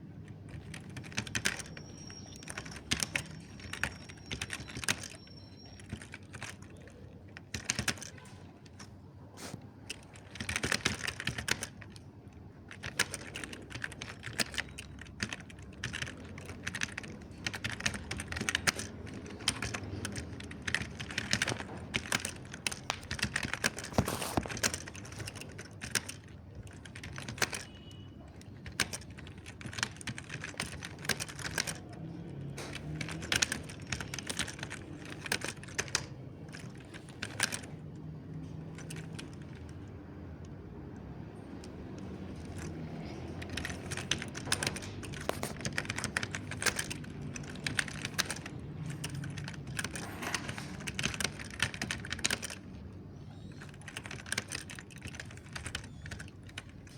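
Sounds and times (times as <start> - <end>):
mechanical keyboard typing: 0.0 - 56.9.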